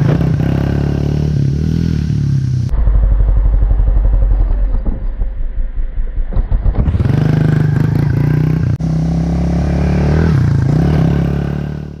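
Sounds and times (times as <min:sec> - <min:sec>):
motorbike engine revving: 0:00.0 - 0:05.4, 0:06.2 - 0:12.0.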